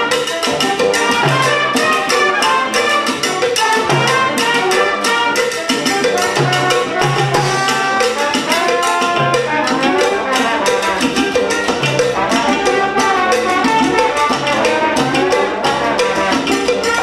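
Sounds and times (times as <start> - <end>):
brass band playing salsa: 0.0 - 17.0
latin percussion beat: 0.0 - 17.0.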